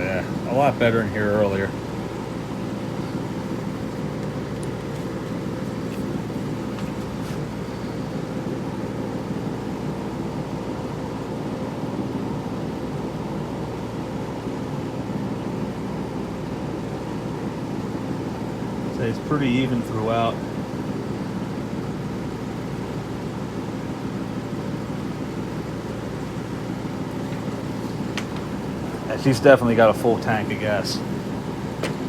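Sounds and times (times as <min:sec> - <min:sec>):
air conditioner fan and hum: 0:00.0 - 0:32.0.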